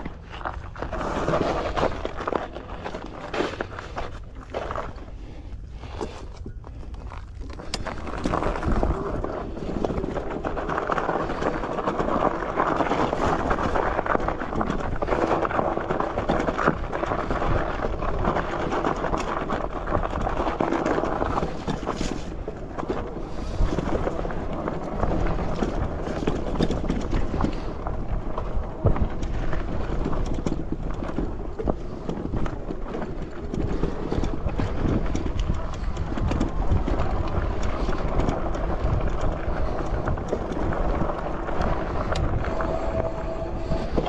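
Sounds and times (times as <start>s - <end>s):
bike tyre rumble on dirt trail: 0.0s - 44.0s
bike knocks and rattles: 5.9s - 44.0s.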